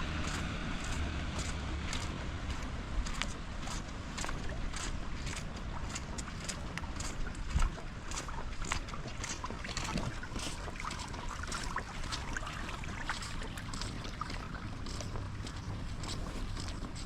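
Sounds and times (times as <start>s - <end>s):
footsteps on wet street: 0.0s - 17.0s.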